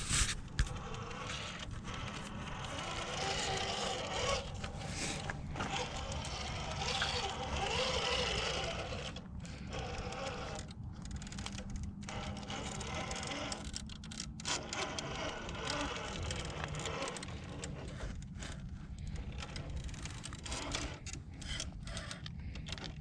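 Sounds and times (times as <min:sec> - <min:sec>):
rc car motor whirring: 0:00.0 - 0:23.0.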